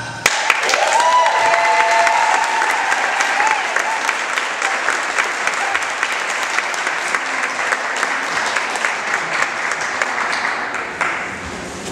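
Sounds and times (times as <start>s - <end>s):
audience applauding: 0.2s - 11.4s.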